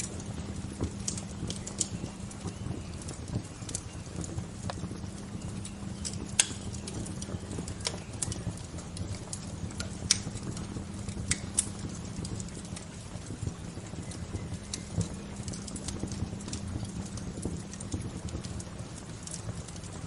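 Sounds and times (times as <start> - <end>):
sharp pops and snaps: 0.0 - 20.0
wood fire crackling: 0.0 - 20.0.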